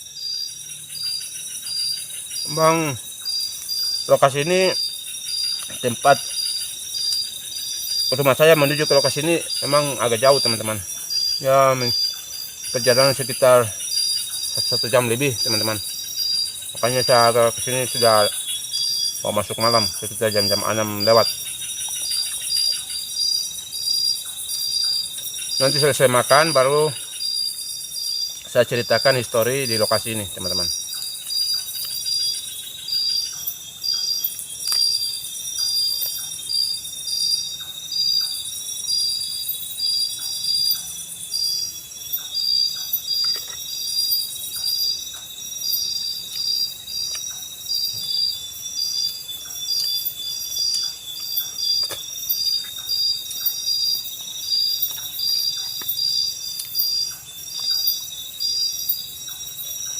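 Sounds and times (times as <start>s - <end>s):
night insects pulsing call: 0.0s - 59.9s
steady high insect buzz: 0.0s - 59.9s.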